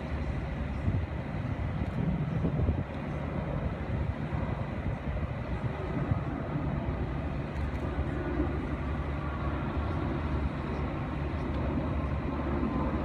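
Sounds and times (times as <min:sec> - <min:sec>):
distant jet plane rumble: 0:00.0 - 0:13.0.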